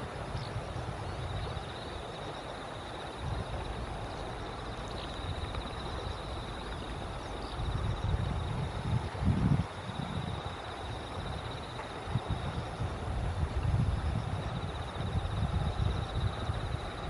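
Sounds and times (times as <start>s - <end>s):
wind rumbling on microphone: 0.0s - 2.2s, 3.1s - 17.0s.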